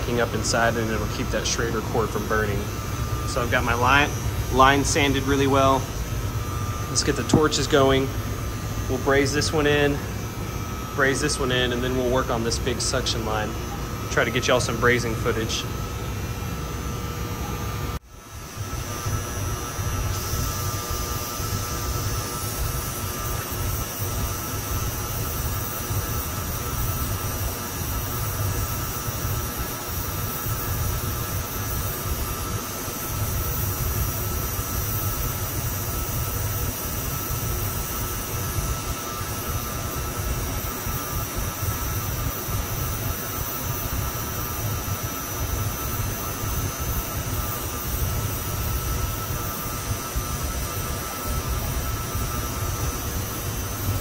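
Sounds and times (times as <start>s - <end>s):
high-pitched equipment whine: 0.0s - 54.0s
torch flame rumbling: 0.0s - 54.0s.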